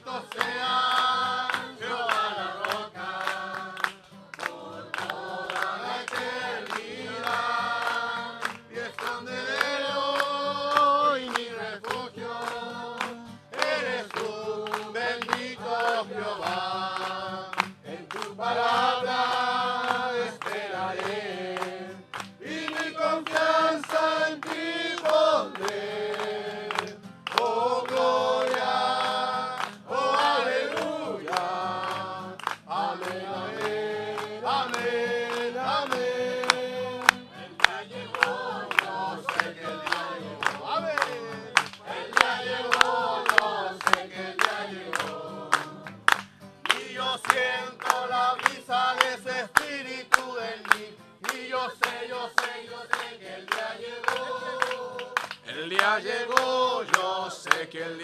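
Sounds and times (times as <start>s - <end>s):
congregation singing: 0.0s - 58.0s
handclaps: 0.0s - 58.0s.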